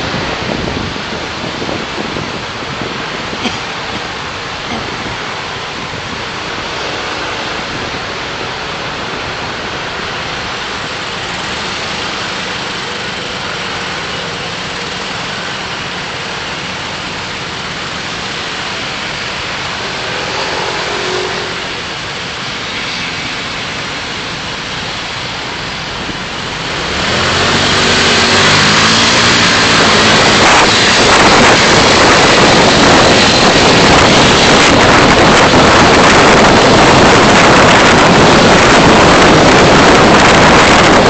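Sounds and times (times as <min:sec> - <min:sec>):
car engine: 0:00.0 - 0:41.0
road and wind noise: 0:00.0 - 0:41.0.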